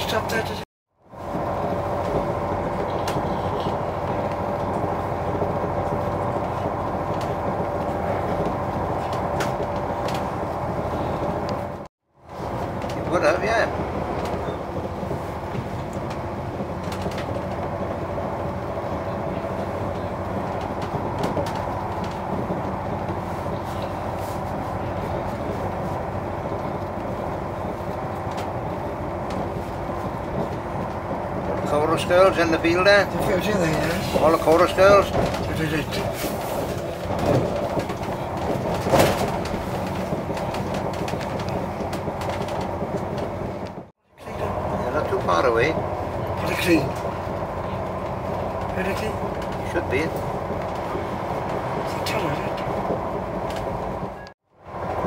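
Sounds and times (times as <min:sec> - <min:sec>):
low engine hum: 0:00.0 - 0:55.0
train running rumble: 0:00.0 - 0:55.0.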